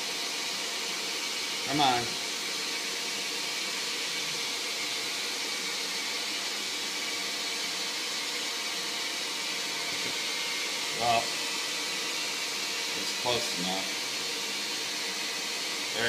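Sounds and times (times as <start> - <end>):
lathe motor running: 0.0 - 16.0.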